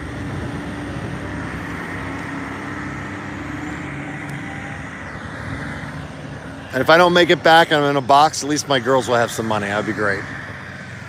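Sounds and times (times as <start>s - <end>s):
bus engine drone: 0.0s - 11.0s
traffic noise: 0.0s - 11.0s.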